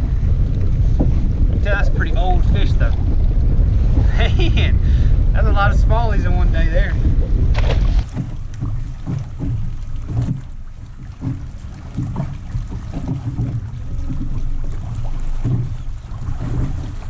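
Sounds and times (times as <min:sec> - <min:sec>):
water lapping against boat hull: 0:00.0 - 0:17.0
wind buffeting microphone: 0:00.0 - 0:17.0.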